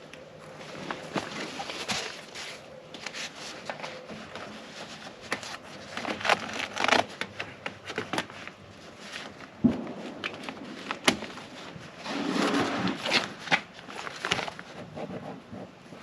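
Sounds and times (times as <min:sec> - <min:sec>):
fabric and packaging rustling: 0:00.0 - 0:16.0.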